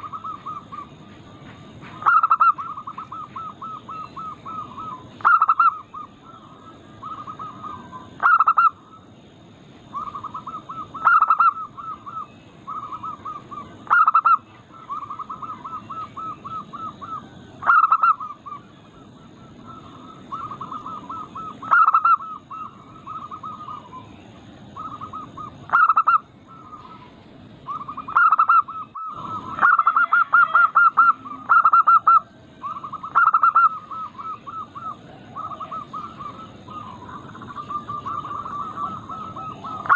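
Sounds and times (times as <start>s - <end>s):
doves cooing: 0.0s - 9.2s, 9.8s - 39.9s.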